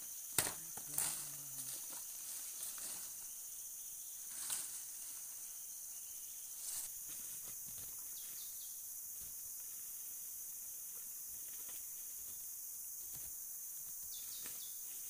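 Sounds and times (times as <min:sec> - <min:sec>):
high-pitched insect chorus: 0:00.0 - 0:15.0
leaves rustling underfoot: 0:00.0 - 0:15.0.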